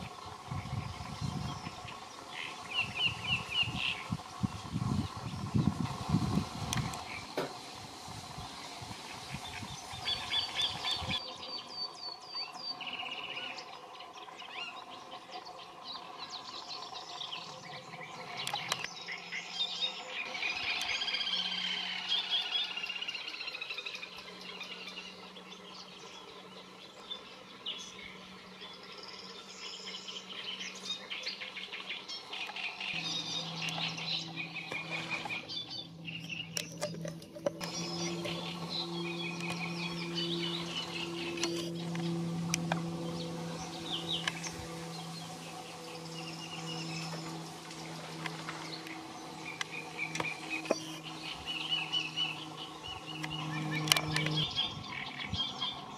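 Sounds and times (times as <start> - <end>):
birds chirping and trilling: 0.0 - 55.9.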